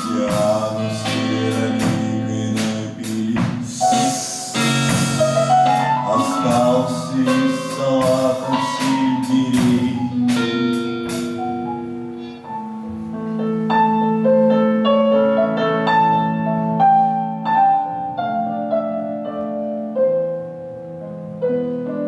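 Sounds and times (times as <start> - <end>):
keyboard piano melody: 0.0 - 22.0.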